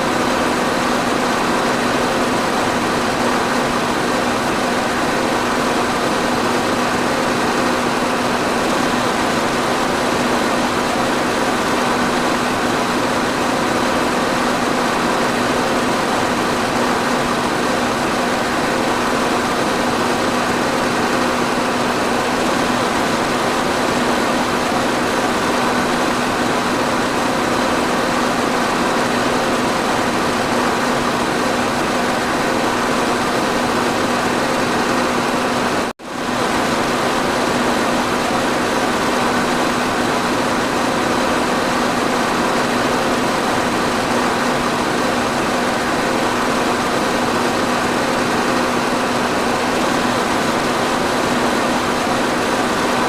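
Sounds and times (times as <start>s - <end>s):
electric fan running: 0.0s - 53.0s.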